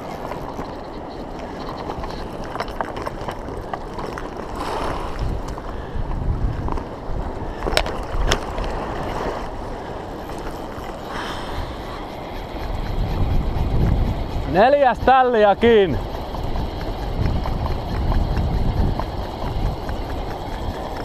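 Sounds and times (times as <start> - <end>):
river current rushing: 0.0 - 5.8, 7.0 - 21.0
wind on microphone: 0.0 - 21.0.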